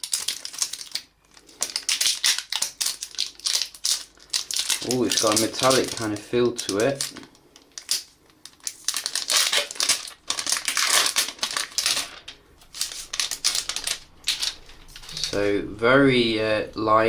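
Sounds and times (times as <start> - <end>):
plastic wrapping crinkling: 0.0 - 15.6.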